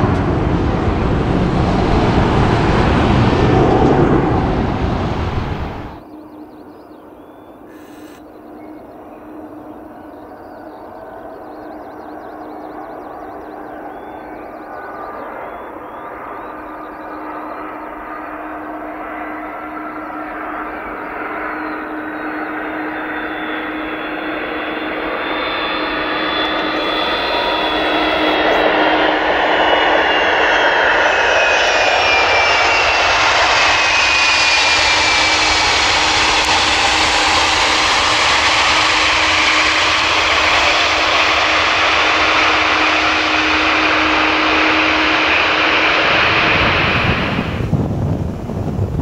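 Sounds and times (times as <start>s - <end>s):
high engine whine: 0.0s - 49.0s
jet engines passing: 0.0s - 49.0s.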